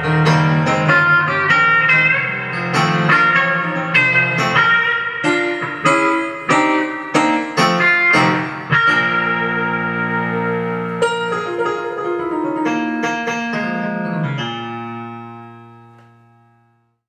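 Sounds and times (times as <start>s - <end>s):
electric guitar chords: 0.0s - 16.8s.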